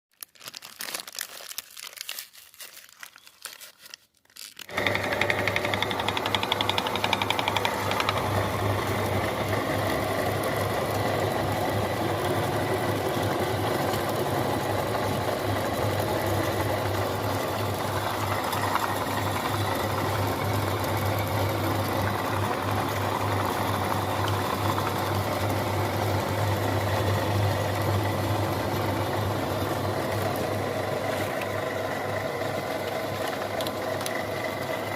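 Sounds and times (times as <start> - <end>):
electric grinder motor humming: 4.7 - 34.9.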